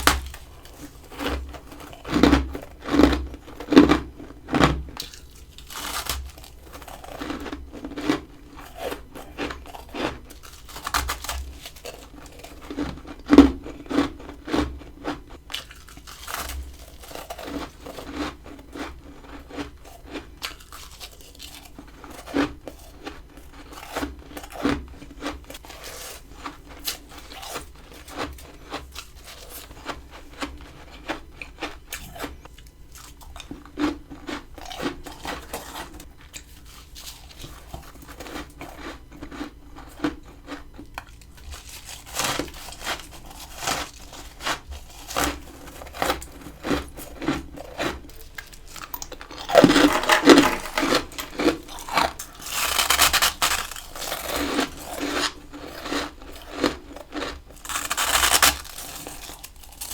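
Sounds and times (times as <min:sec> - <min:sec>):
crunching of ice: 0:00.0 - 0:59.9.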